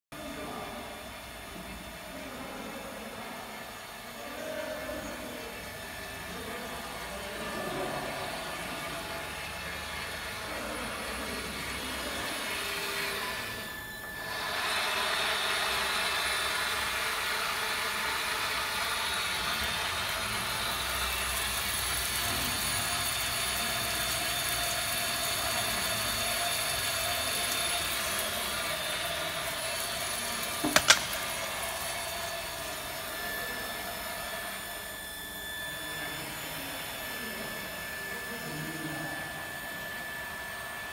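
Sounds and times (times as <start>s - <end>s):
machine humming and hissing: 0.2s - 40.9s.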